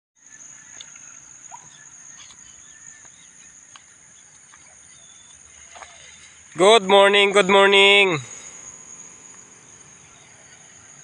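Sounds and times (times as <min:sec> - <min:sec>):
crickets trilling: 0:00.2 - 0:11.0
short cricket chirps: 0:00.2 - 0:11.0.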